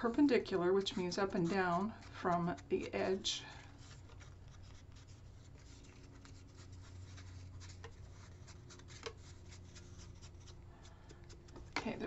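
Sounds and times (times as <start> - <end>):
scratchy strokes of tool on paper: 0.1 - 12.0.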